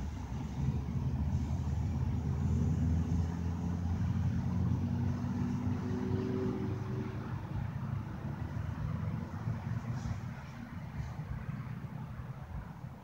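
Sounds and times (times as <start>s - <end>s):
truck engine running at low revs: 0.0s - 13.0s.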